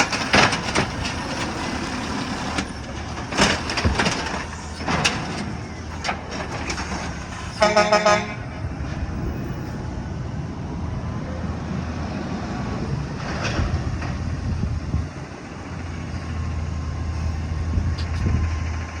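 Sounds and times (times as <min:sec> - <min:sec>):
garbage truck engine humming: 0:00.0 - 0:19.0.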